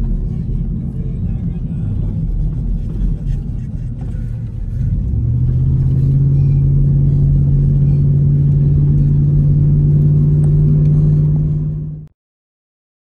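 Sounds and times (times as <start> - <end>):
car engine and road noise drone: 0.0 - 12.1.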